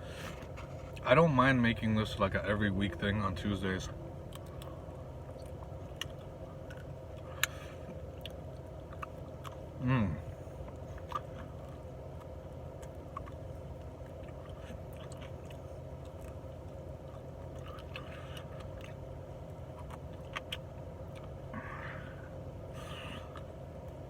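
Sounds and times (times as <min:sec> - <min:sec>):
low background hum: 0:00.0 - 0:24.0
person chewing: 0:04.2 - 0:24.0.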